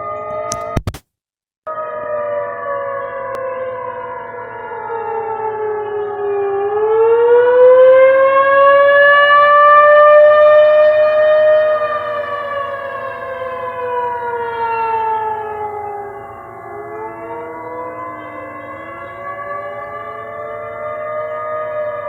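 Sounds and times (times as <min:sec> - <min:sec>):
siren wailing: 0:00.0 - 0:00.8, 0:01.7 - 0:22.0.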